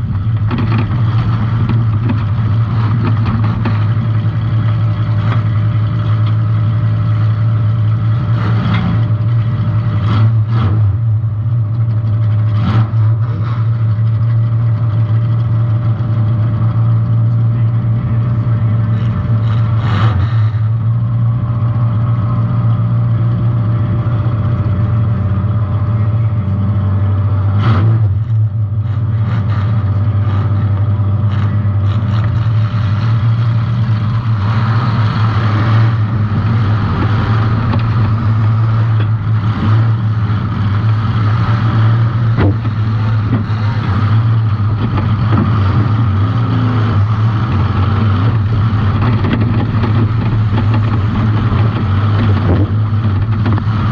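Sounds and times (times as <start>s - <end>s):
car engine running hard: 0.0s - 53.9s.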